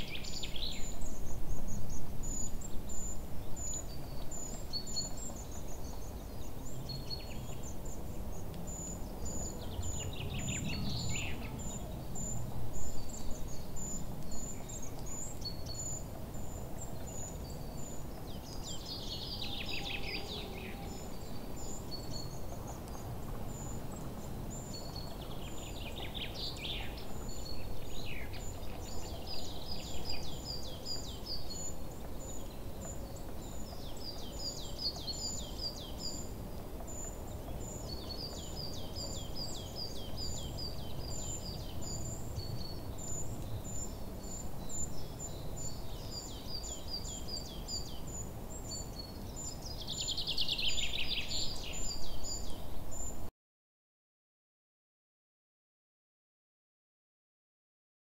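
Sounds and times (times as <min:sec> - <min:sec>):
birds singing: 0:00.0 - 0:53.3.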